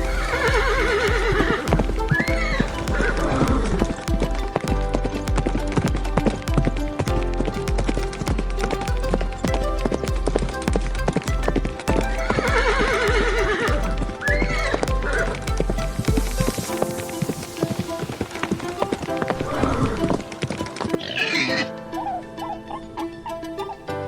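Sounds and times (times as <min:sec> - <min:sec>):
horse hooves clip-clopping: 0:00.0 - 0:22.6
background music: 0:00.0 - 0:24.0.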